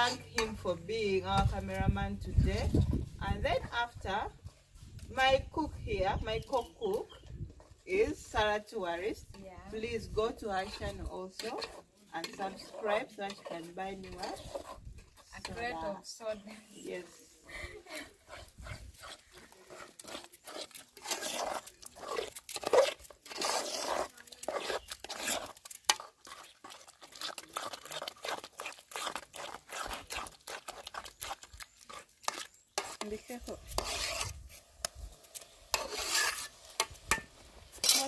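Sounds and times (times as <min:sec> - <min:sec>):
metal spoon scraping a pot: 0:00.0 - 0:38.0.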